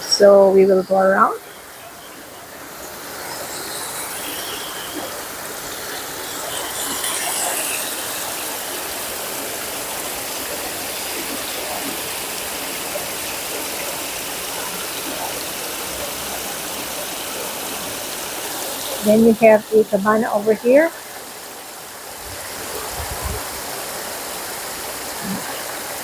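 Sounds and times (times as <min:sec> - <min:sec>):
water running and splashing: 0:00.0 - 0:26.0.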